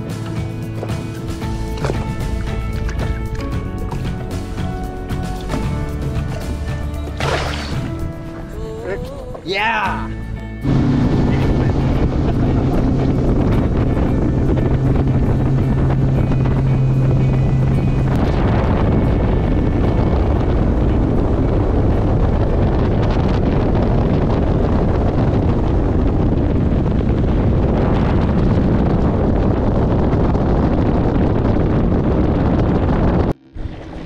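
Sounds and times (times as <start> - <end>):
outboard motor running: 0.0 - 34.0
wind rush on microphone: 0.0 - 34.0.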